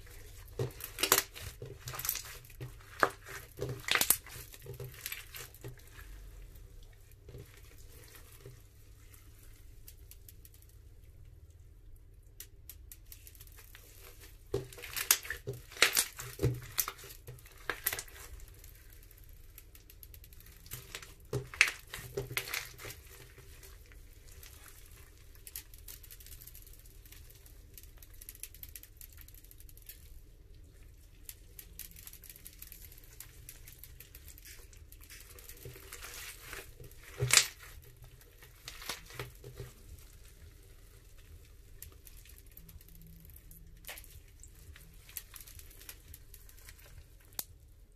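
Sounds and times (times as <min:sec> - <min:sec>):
crunchy slime crackling and popping: 0:00.0 - 0:47.9.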